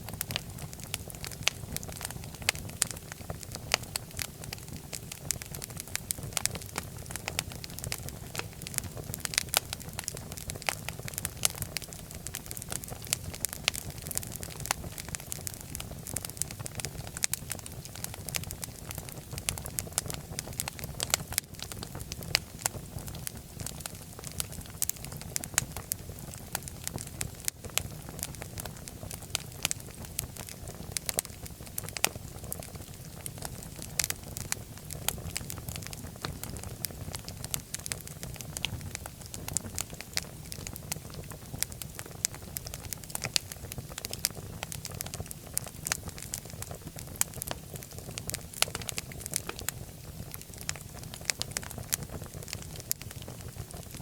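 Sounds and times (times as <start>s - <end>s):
fire crackling and popping: 0.0s - 54.0s
low rumble of flame: 0.0s - 54.0s.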